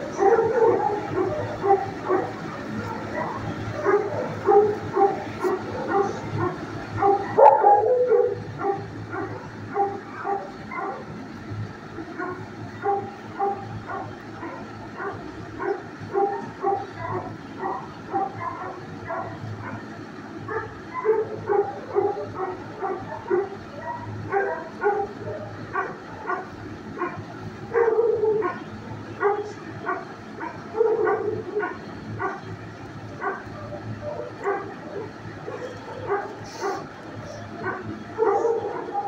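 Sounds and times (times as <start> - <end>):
dogs barking: 0.0 - 39.0
steady low hum: 0.0 - 39.0.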